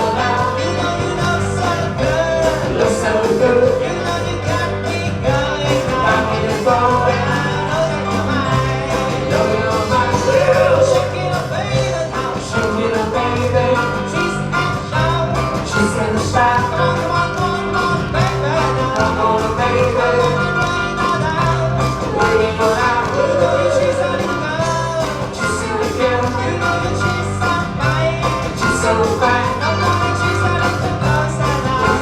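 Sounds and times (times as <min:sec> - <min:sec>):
bass line: 0:00.0 - 0:32.0
guitar: 0:00.0 - 0:32.0
live rock and roll band: 0:00.0 - 0:32.0
person singing: 0:00.0 - 0:32.0.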